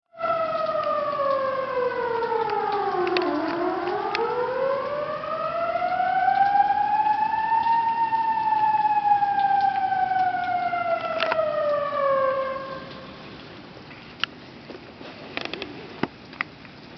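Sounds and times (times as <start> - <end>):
flood-warning siren wailing: 0.1 - 13.8.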